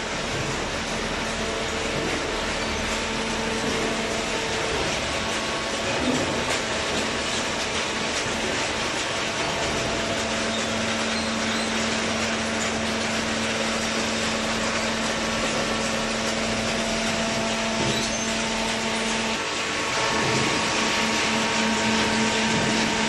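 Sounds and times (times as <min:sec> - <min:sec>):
electric motor and pump droning: 0:00.0 - 0:23.0.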